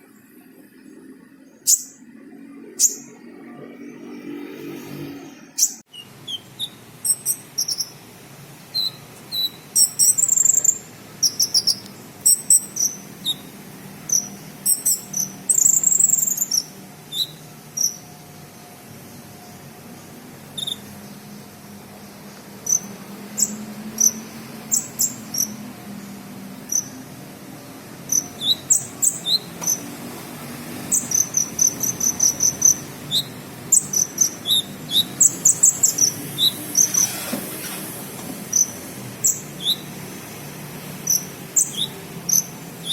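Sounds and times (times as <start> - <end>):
bird singing high chirps: 0.0 - 3.3, 5.6 - 18.2, 19.1 - 27.1, 28.0 - 37.1, 38.5 - 42.9.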